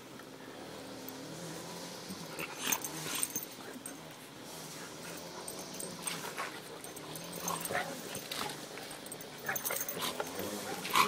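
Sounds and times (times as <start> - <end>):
dogs growling: 1.4 - 11.0.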